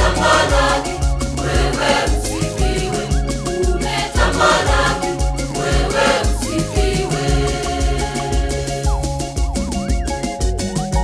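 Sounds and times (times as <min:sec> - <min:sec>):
choir singing gospel song: 0:00.0 - 0:09.4
keyboard backing with bass beat: 0:00.0 - 0:11.0.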